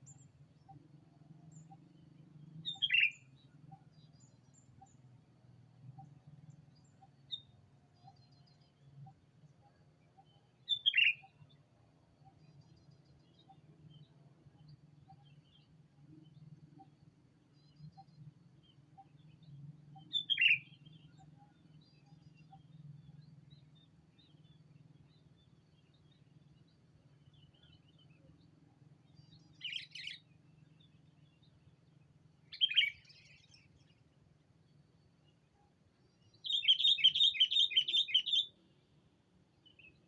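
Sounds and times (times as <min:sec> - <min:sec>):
faint bird chirps: 0:00.0 - 0:40.0.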